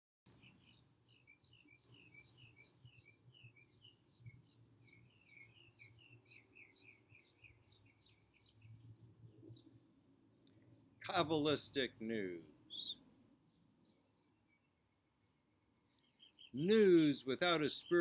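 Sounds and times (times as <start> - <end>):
faint bird chirps: 0.3 - 18.0.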